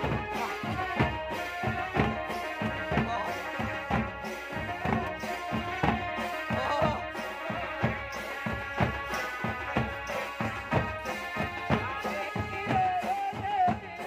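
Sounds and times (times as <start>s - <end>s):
folk drums: 0.0s - 14.0s.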